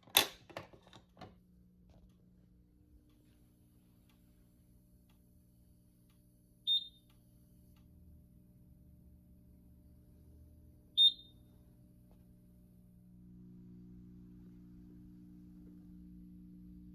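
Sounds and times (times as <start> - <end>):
faint low hum: 0.1 - 16.9.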